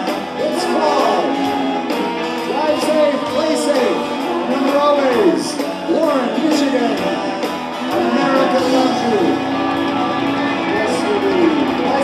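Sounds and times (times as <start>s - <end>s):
live band with guitars: 0.0s - 12.0s.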